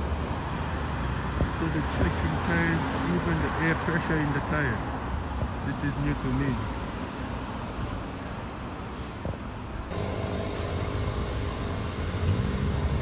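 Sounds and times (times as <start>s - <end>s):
car engines in traffic: 0.0s - 13.0s.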